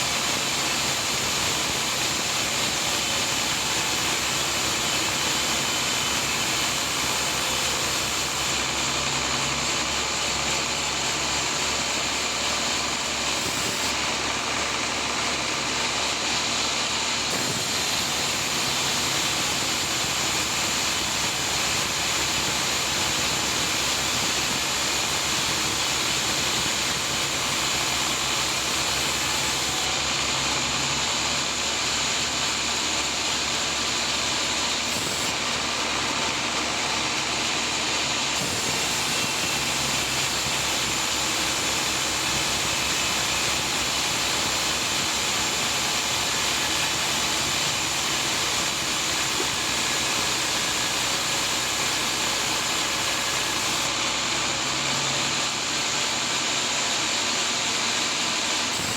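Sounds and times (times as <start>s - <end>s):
saw cutting through log: 0.0s - 58.9s.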